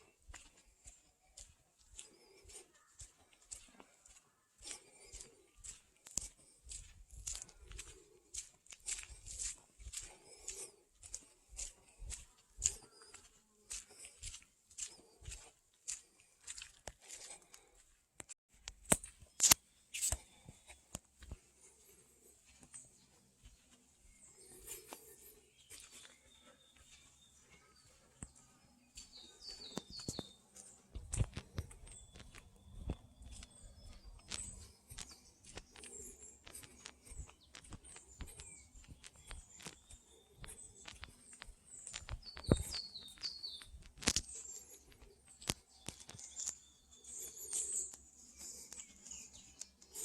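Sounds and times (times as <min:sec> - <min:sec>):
birds chirping: 0:00.0 - 0:18.0, 0:18.7 - 0:50.0
footsteps crunching on road: 0:00.0 - 0:50.0.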